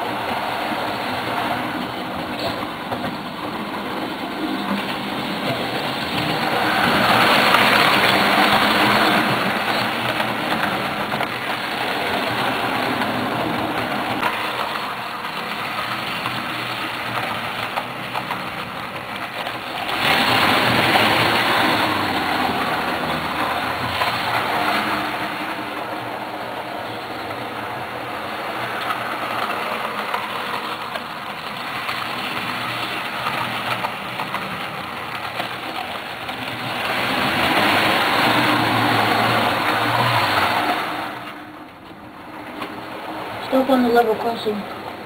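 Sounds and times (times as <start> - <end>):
model train running on track: 0.0 - 45.0.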